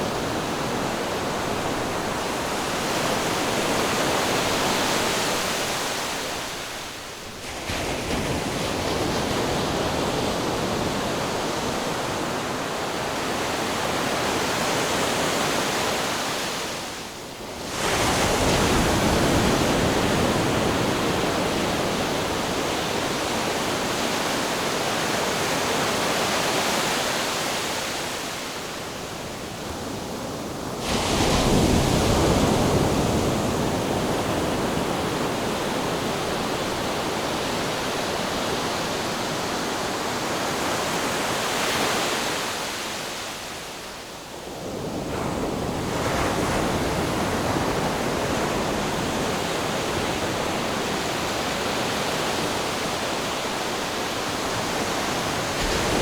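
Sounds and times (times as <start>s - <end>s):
waves crashing: 0.0s - 56.0s.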